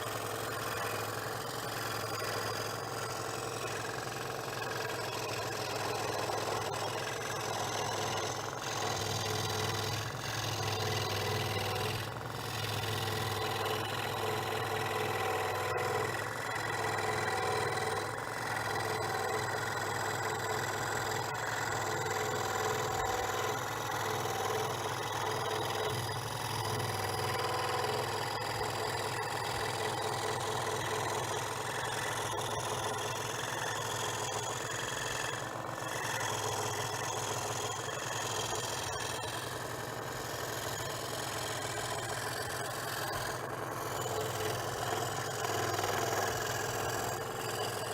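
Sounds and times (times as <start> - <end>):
scroll saw running: 0.0 - 47.9.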